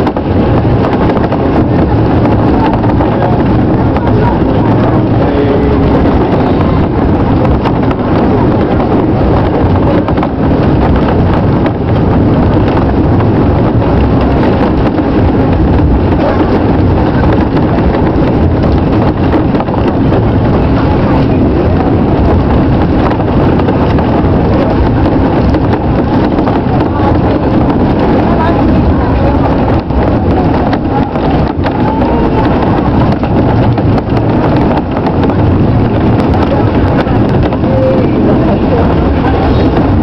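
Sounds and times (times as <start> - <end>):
train mechanical rumble: 0.0 - 40.0.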